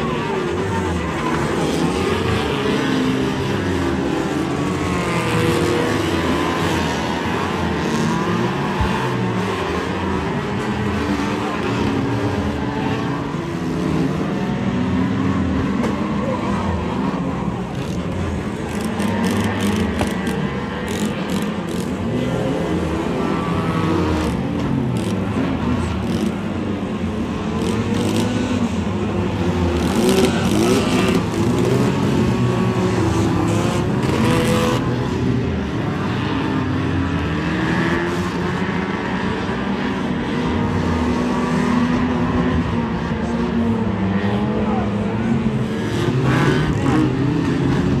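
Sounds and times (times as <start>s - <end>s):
car engines revving hard: 0.0s - 48.0s.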